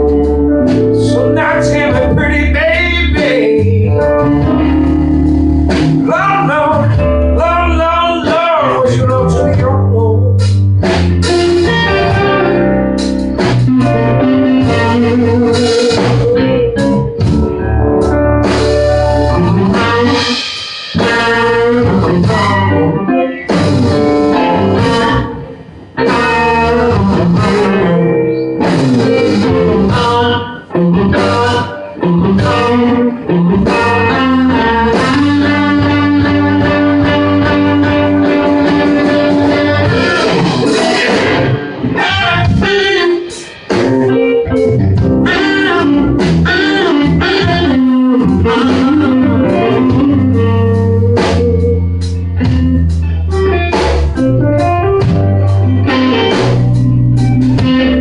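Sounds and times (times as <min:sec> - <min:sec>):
blues band playing: 0:00.0 - 0:58.0
lead guitar: 0:00.0 - 0:58.0
steady bass line: 0:00.0 - 0:58.0.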